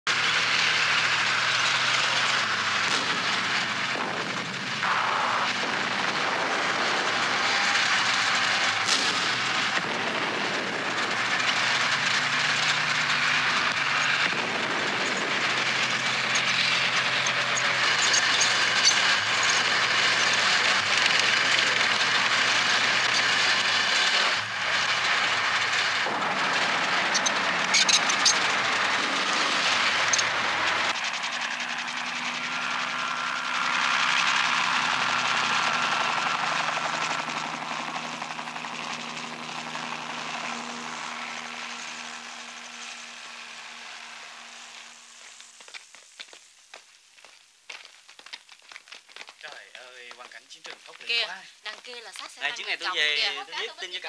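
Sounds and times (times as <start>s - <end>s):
heavy vehicle engine clatter: 0.1s - 46.2s.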